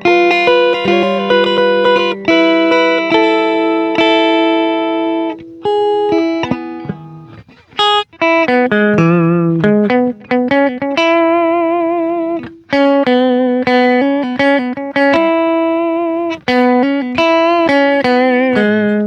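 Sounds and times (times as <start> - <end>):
electric guitar melody: 0.0 - 19.0.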